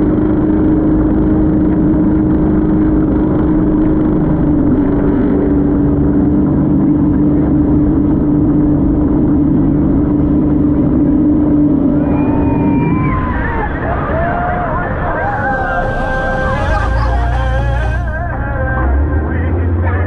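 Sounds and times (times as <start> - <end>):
motorboat engine running: 0.0 - 20.0.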